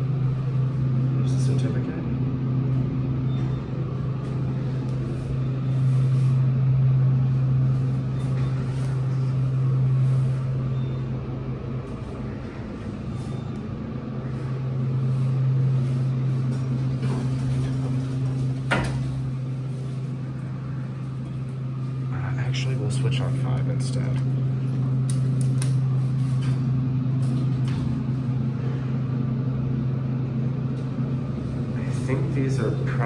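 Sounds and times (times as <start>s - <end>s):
elevator mechanical hum: 0.0s - 33.0s.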